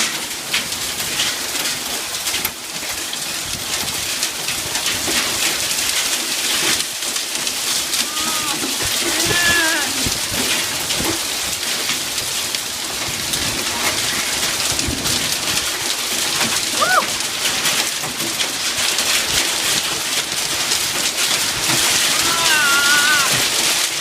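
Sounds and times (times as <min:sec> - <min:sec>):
hail pelting down: 0:00.0 - 0:24.0.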